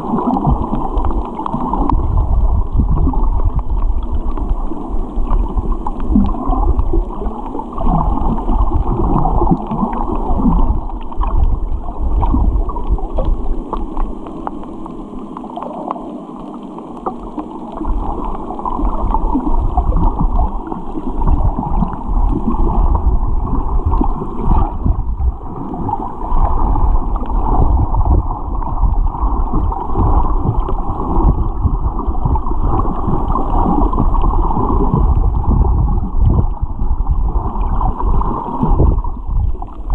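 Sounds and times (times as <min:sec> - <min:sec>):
rushing underwater noise: 0:00.0 - 0:39.9.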